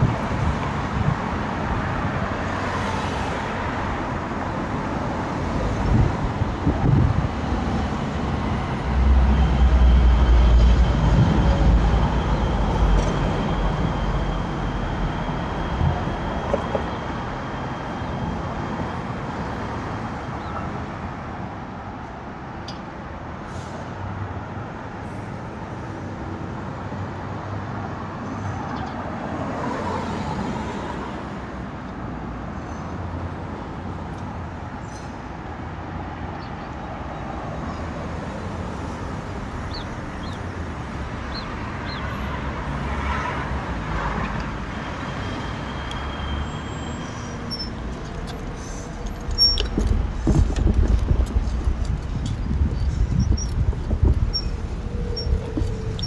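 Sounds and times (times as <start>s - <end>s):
cars passing: 0.0s - 56.0s
road traffic: 0.0s - 56.0s.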